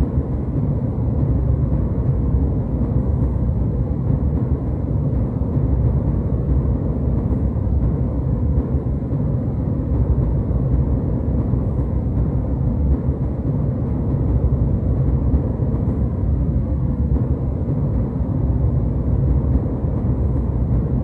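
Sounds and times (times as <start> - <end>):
jet cabin engine rumble: 0.0 - 21.0.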